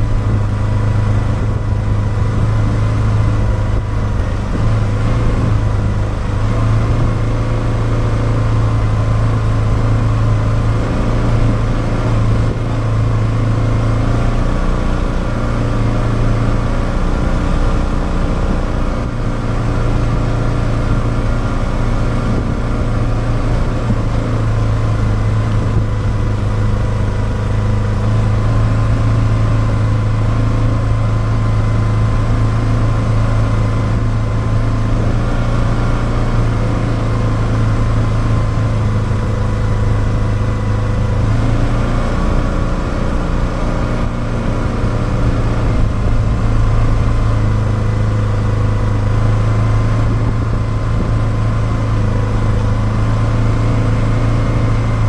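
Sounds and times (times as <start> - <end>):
single-cylinder engine running: 0.0 - 55.0.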